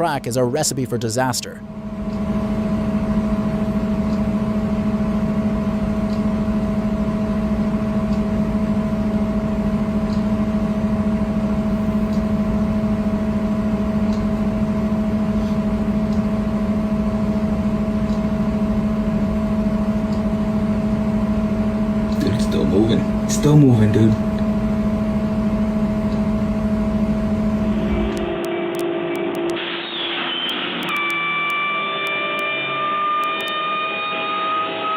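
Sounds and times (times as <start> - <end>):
train mechanical hum: 0.0 - 28.8.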